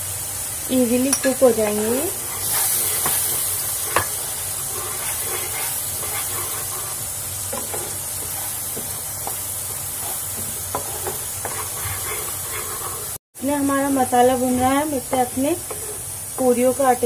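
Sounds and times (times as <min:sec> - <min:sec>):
spice paste sizzling in oil: 0:00.0 - 0:17.0
spatula knocking and scraping pan: 0:01.1 - 0:13.2, 0:14.2 - 0:16.6.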